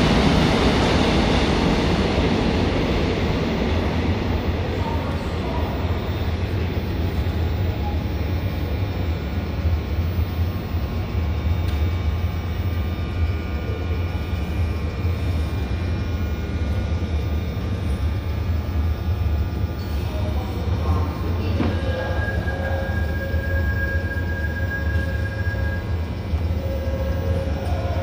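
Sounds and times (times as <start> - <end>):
electric train rumble: 0.0 - 28.0
high steady tone: 0.0 - 28.0.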